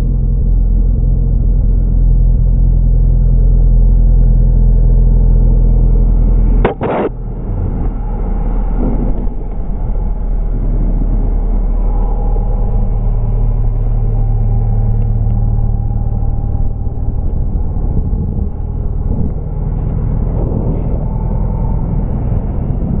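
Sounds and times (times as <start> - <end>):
motorcycle engine rumbling: 0.0 - 23.0.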